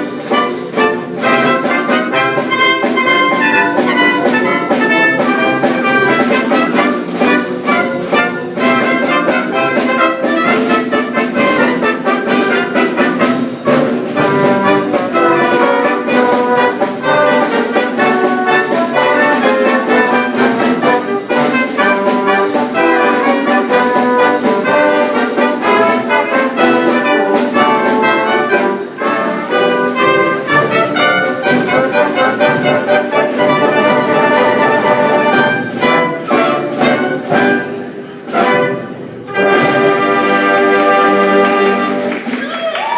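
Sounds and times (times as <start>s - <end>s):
brass band playing lively piece: 0.0s - 42.9s.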